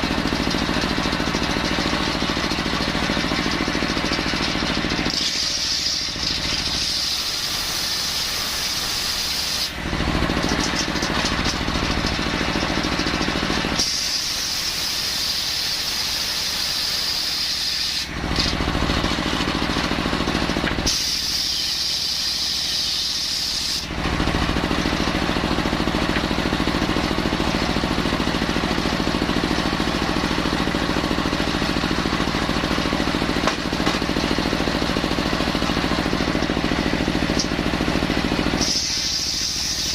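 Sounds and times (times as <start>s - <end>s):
circular saw cutting timber: 0.0s - 39.9s.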